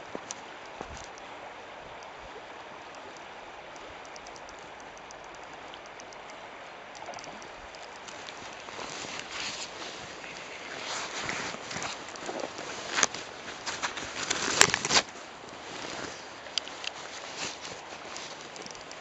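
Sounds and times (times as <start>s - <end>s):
river water running over stones: 0.0s - 19.0s
small clicks: 2.9s - 19.0s.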